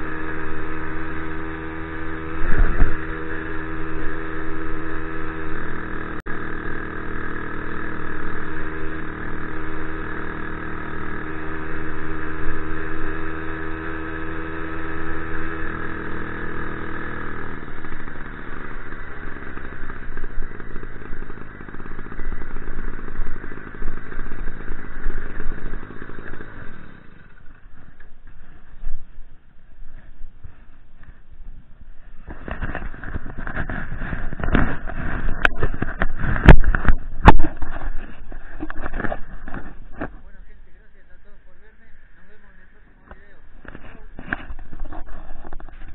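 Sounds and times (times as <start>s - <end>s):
engine rattling: 0.0s - 45.9s
small motorbike engine running: 0.0s - 45.9s.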